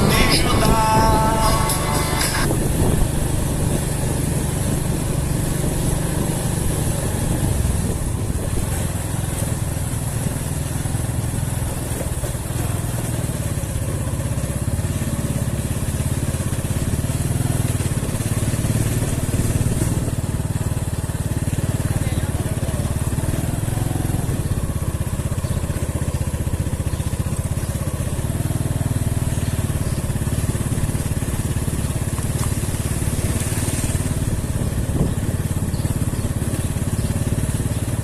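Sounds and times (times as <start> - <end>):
road and wind noise: 0.0 - 38.0
vehicle engine rumble: 0.0 - 38.0.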